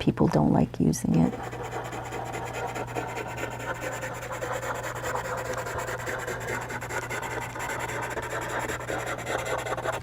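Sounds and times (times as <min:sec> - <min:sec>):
charcoal pencil scratching paper: 0:01.2 - 0:10.0.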